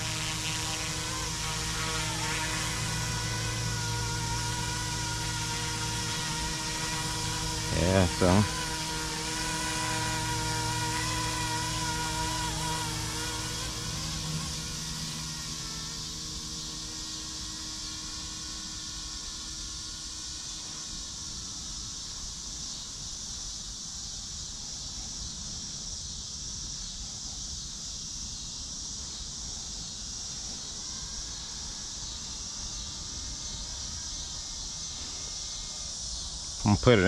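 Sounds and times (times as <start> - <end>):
distant rc helicopter whine: 0.0 - 37.0
insects chirring: 0.0 - 37.0.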